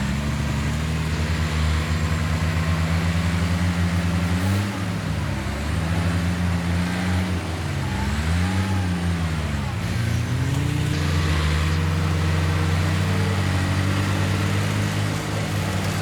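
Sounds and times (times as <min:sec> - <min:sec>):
heavy diesel engine working: 0:00.0 - 0:16.0.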